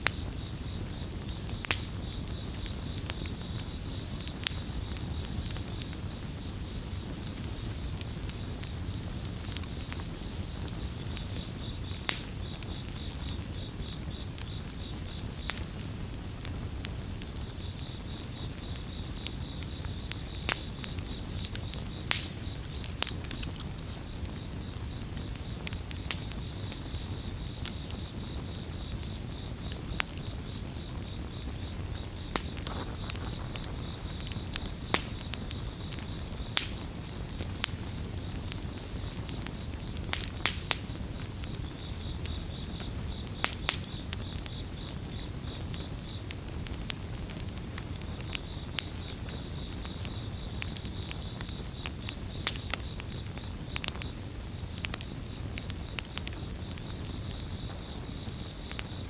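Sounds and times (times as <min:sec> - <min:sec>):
campfire crackling and popping: 0:00.0 - 0:59.0
cricket chirping trill: 0:00.0 - 0:59.0.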